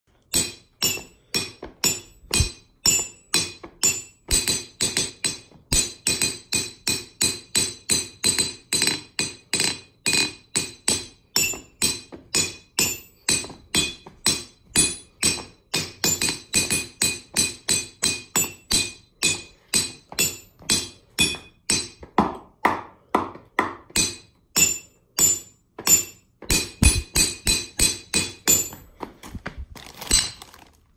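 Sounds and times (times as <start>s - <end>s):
hammer ringing on anvil: 0.3s - 22.0s, 23.9s - 28.9s.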